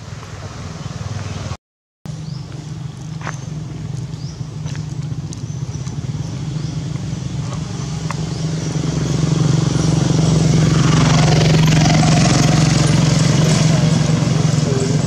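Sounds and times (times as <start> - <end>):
vehicle engine running: 2.1 - 15.0.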